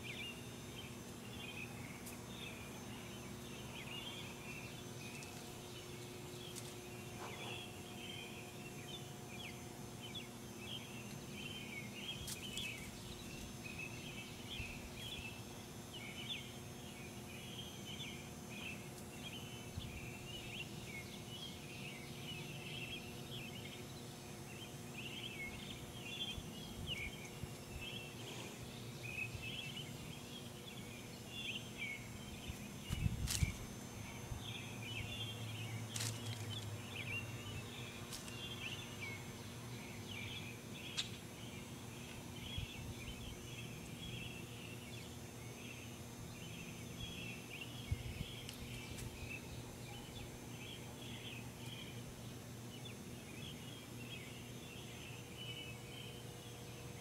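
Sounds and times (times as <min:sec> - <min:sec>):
low steady hum: 0:00.0 - 0:57.0
small birds chirping: 0:00.0 - 0:57.0.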